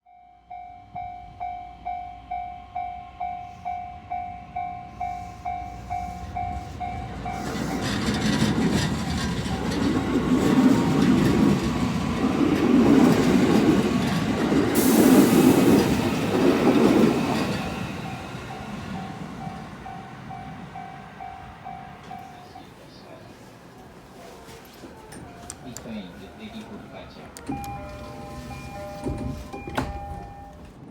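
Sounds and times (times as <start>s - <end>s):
level crossing warning bell: 0.1s - 14.0s, 16.4s - 23.0s, 25.1s - 30.9s
electric train pulling away: 0.4s - 23.1s, 25.1s - 30.9s.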